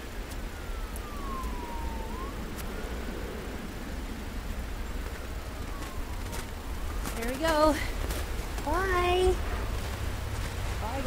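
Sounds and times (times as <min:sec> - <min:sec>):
faint siren wailing: 0:00.0 - 0:11.0
steady low rumble: 0:00.0 - 0:11.0.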